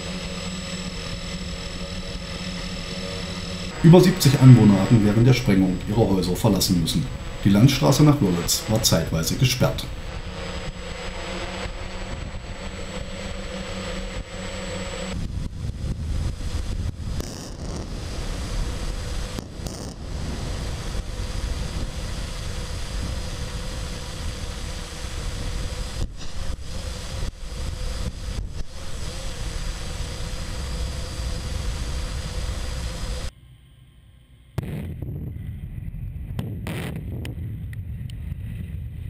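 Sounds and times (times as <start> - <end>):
drone propellers whirring: 0.0 - 39.0
low rumble: 0.0 - 39.0.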